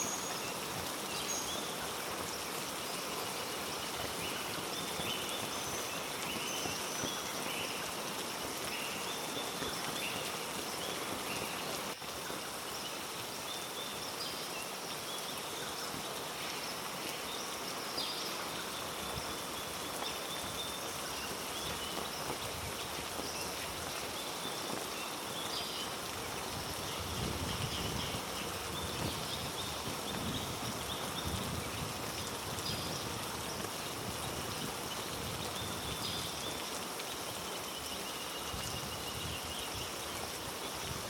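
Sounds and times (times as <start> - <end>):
heavy rain hiss: 0.0 - 41.0.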